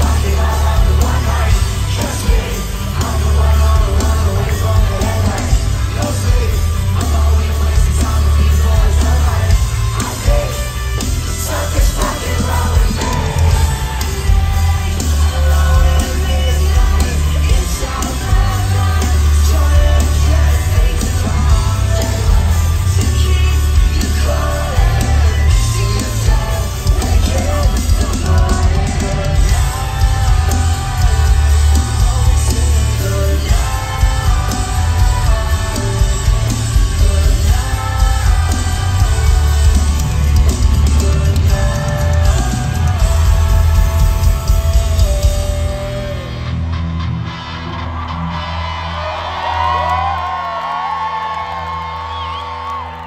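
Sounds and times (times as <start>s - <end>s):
man singing: 0.0s - 46.7s
live rock band: 0.0s - 53.0s.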